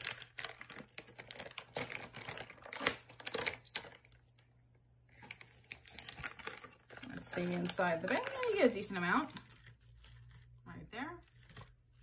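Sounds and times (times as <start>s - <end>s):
plastic snack bag crinkling: 0.0s - 4.4s, 5.1s - 12.0s.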